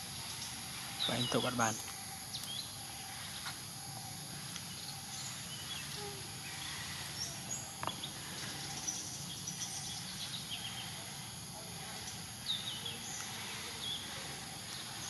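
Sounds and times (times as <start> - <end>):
background hiss: 0.0 - 15.0
high insect drone: 0.0 - 15.0.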